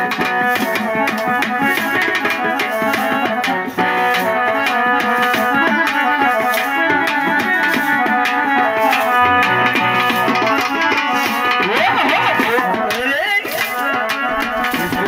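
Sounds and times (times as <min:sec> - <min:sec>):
drums and rattling percussion: 0:00.0 - 0:15.0
electronic keyboard melody: 0:00.0 - 0:15.0.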